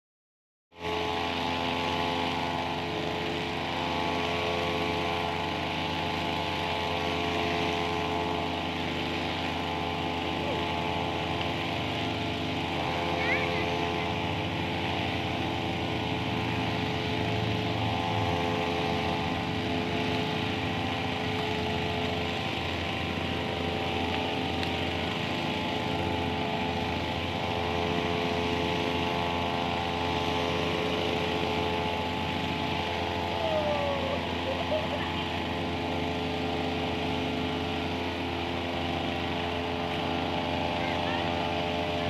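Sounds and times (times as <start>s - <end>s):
motor humming: 0.8s - 42.0s.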